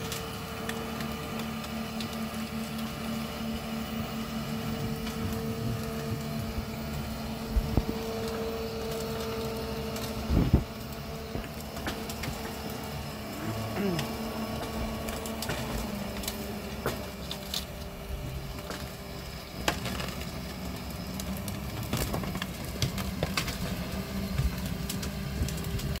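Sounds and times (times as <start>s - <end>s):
diesel engine running: 0.0s - 26.0s
wood cracking and knocking: 4.4s - 26.0s.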